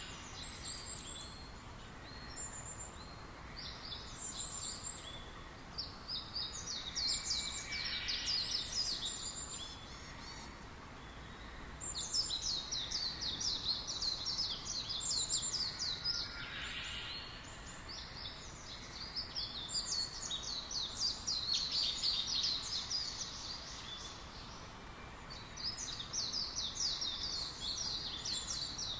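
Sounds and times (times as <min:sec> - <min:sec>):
faint steady hiss: 0:00.0 - 0:28.9
songbirds chirping: 0:00.0 - 0:28.9.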